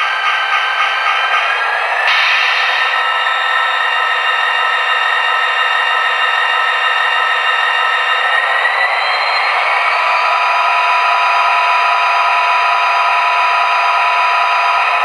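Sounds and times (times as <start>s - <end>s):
thin diesel locomotive engine sound: 0.0s - 15.0s.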